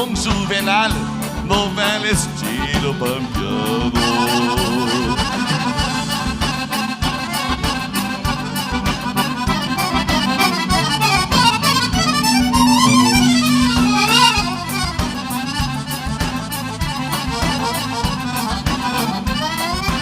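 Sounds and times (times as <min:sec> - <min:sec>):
accordion fast runs: 0:00.0 - 0:20.0
band playing quick beat: 0:00.0 - 0:20.0.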